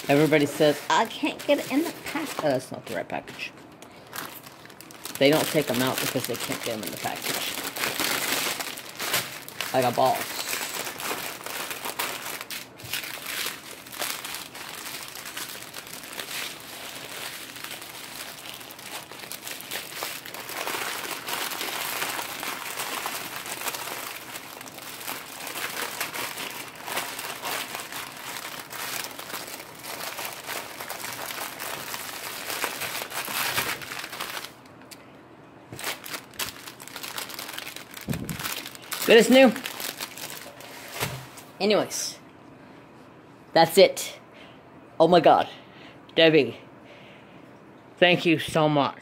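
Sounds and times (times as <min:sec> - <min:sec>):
plastic packaging crinkling: 0:00.0 - 0:02.7, 0:03.3 - 0:35.0, 0:35.7 - 0:41.4.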